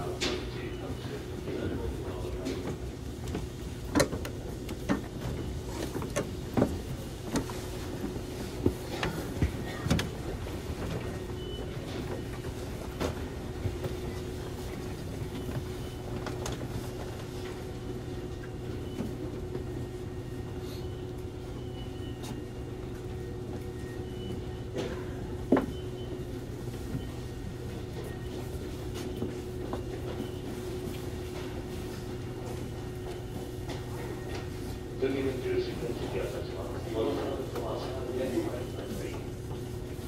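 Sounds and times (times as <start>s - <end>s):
train interior hum: 0.0s - 40.0s.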